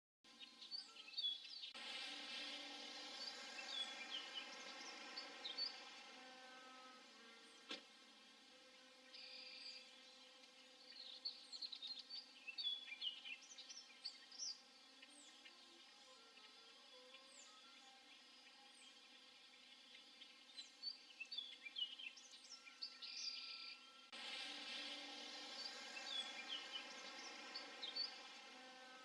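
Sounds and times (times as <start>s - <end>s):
small birds chirping: 0.3s - 29.0s.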